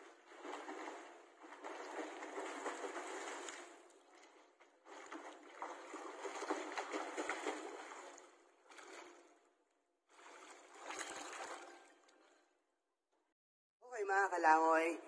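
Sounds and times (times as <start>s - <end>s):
water splashing from swimming: 0.0s - 12.5s.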